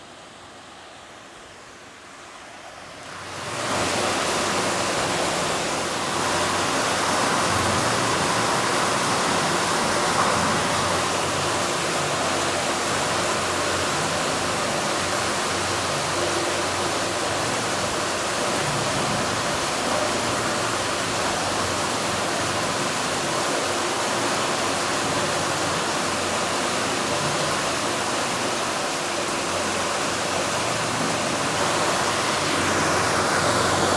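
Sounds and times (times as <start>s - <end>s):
sea waves rushing: 2.9s - 33.9s.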